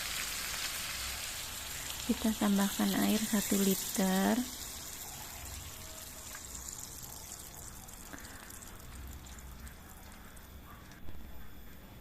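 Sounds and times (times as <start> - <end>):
water poured into a pan: 0.0 - 10.6.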